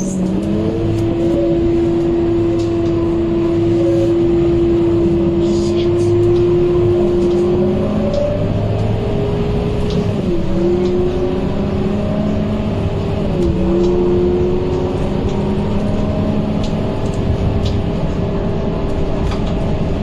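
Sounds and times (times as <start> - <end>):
bus engine running: 0.0 - 20.0
cooling fan whine: 0.0 - 20.0.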